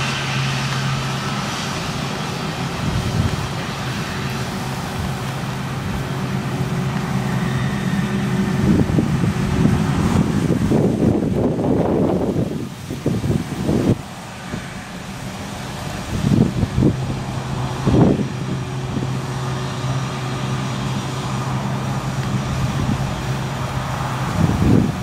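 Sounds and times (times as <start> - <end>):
jet engines rumbling: 0.0 - 25.0
wind buffeting microphone: 0.0 - 25.0.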